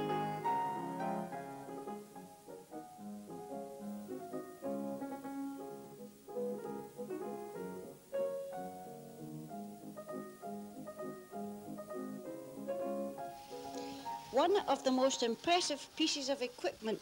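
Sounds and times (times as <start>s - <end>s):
piano melody with chords: 0.0s - 14.8s.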